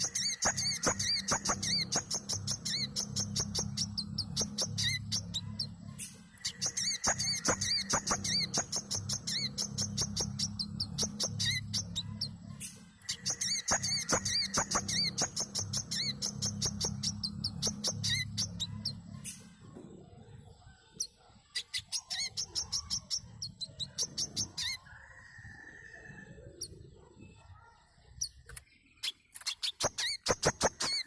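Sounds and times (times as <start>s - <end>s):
sunbird chirping: 0.0s - 25.2s, 26.5s - 31.0s.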